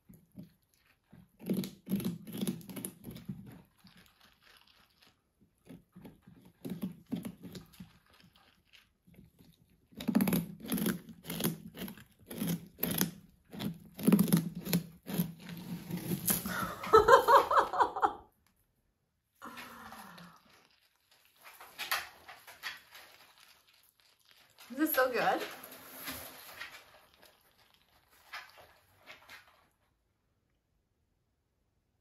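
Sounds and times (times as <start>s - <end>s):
porcupine gnawing pumpkin: 0.0s - 16.9s, 19.4s - 29.8s.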